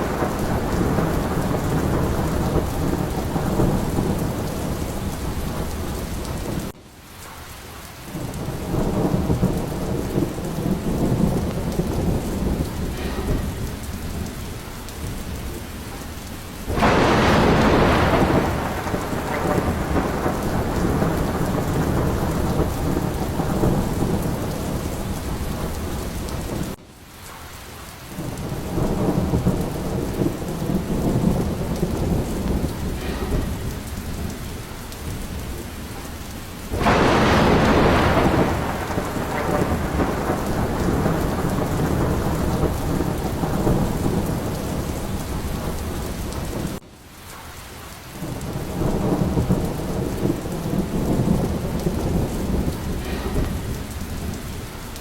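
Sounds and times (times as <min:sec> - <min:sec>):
loud thunderclap: 0:00.0 - 0:06.8, 0:08.1 - 0:26.8, 0:28.2 - 0:46.8, 0:48.2 - 0:55.0
rolling thunder: 0:00.0 - 0:27.4, 0:28.1 - 0:55.0
heavy rain: 0:00.0 - 0:55.0.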